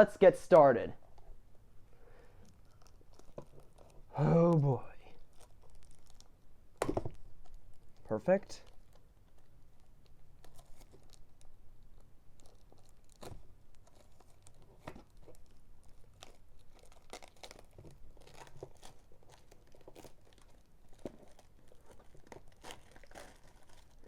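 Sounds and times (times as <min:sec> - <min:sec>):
packaging crinkling and tearing: 0:02.5 - 0:04.2, 0:05.1 - 0:24.0.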